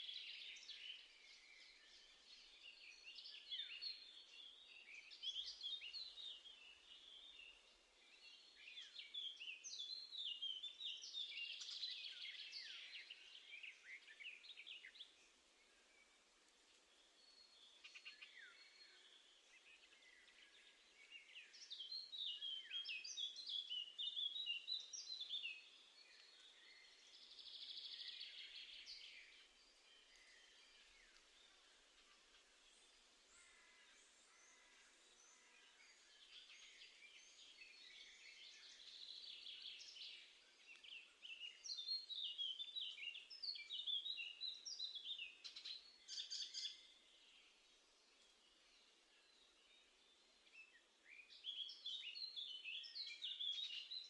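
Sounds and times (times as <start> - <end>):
faint background noise: 0.0 - 54.0
songbirds chirping: 0.0 - 54.0.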